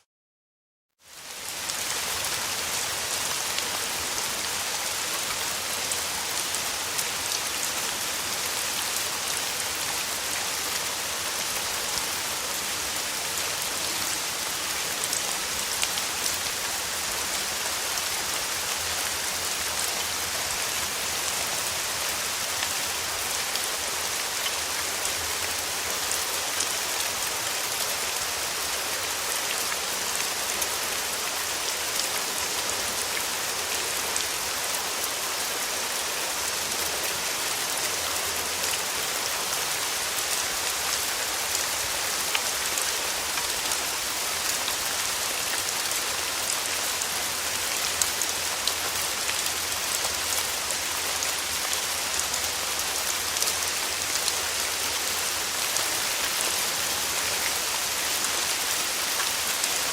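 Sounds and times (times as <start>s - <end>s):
rain falling on a surface: 1.0s - 59.9s.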